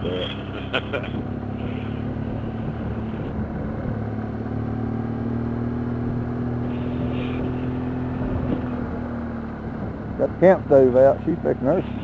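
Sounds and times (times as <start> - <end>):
road rumble: 0.0 - 12.0
vehicle engine drone: 0.0 - 12.0.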